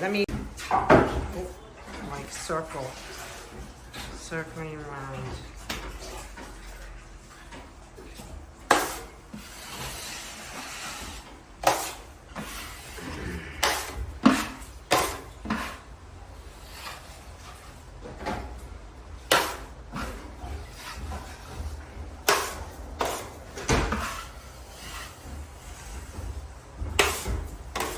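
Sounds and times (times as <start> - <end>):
drywall tools scraping bucket: 0.0 - 27.9.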